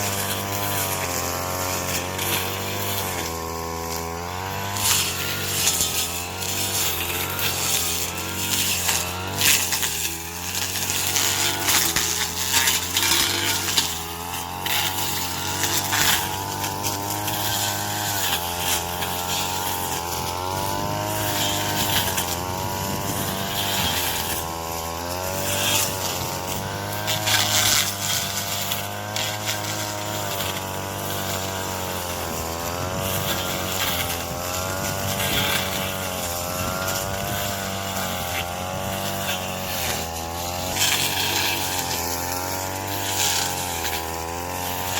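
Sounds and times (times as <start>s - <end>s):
chopping machine engine running: 0.0s - 44.9s
corn stalks crunching: 0.0s - 44.9s.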